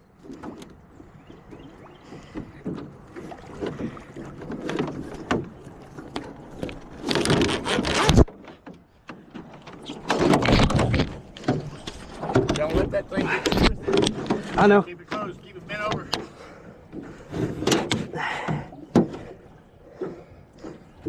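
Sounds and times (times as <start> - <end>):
knocks and bumps in a boat: 0.0 - 21.0.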